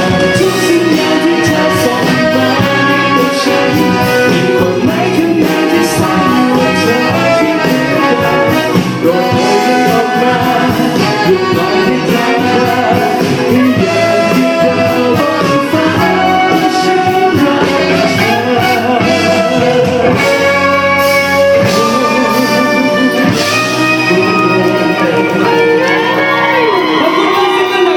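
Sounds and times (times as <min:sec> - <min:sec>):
brass band music: 0:00.0 - 0:27.9
steady drum beat: 0:00.0 - 0:27.9.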